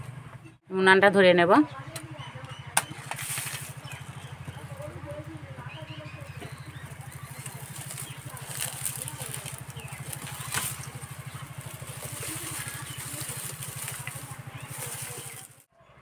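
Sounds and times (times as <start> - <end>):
low pulsing hum: 1.6 - 15.7
dry straw rustling and crackling: 2.8 - 15.7.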